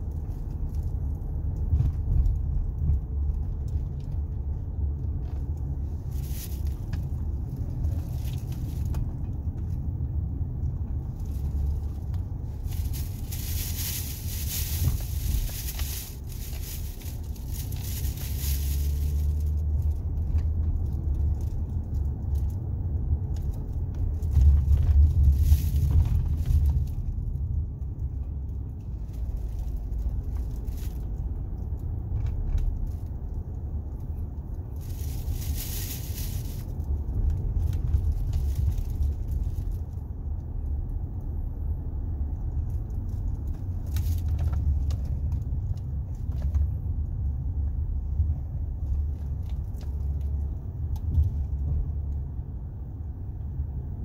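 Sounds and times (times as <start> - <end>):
car cabin road noise: 0.0 - 54.0.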